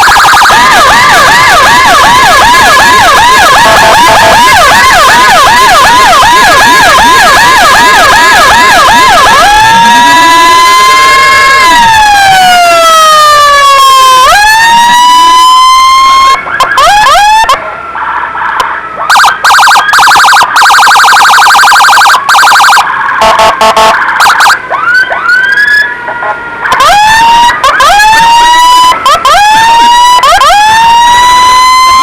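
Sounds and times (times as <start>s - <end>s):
ambulance electronic siren: 0.0s - 32.0s.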